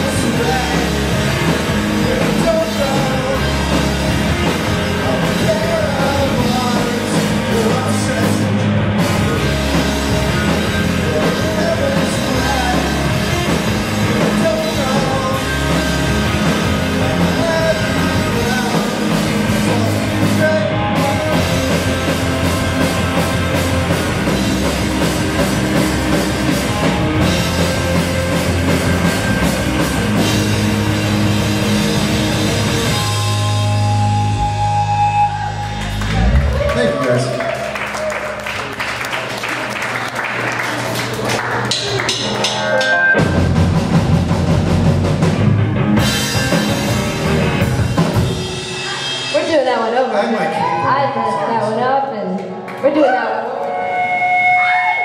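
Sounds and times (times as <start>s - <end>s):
live pop-punk band: 0.0s - 40.0s, 41.5s - 51.4s.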